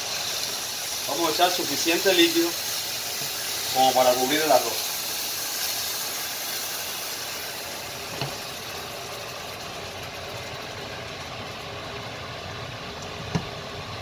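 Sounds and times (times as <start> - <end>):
steam hissing and simmering: 0.0 - 14.0.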